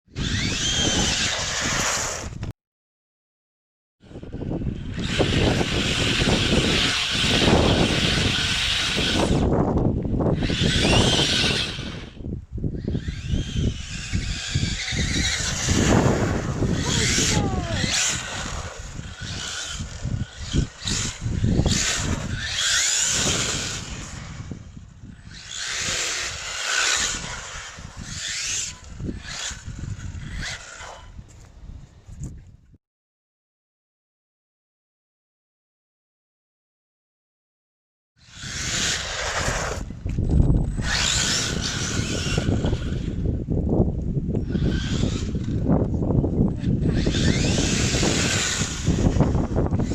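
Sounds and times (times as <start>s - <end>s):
electric motor whining: 0.1s - 2.4s, 4.1s - 31.4s, 38.2s - 49.9s
tyre and wind noise: 0.1s - 2.5s, 4.0s - 32.8s, 38.2s - 49.9s.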